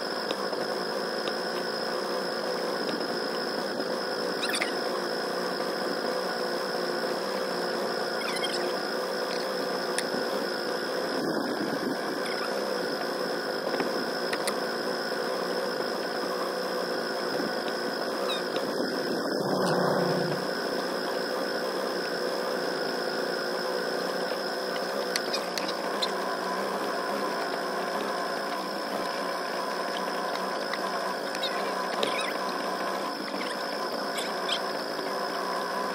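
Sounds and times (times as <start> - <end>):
small boat motor buzzing: 0.0 - 35.9.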